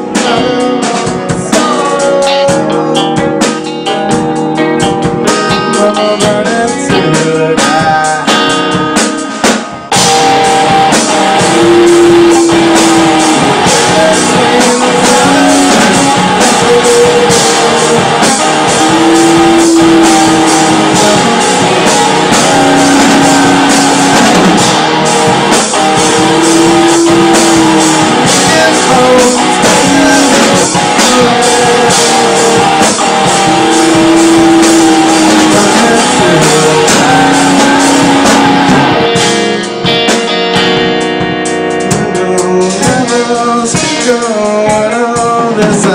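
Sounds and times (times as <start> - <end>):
person singing: 0.0 - 9.2, 9.9 - 41.0, 41.8 - 45.9
rock band playing: 0.0 - 45.9.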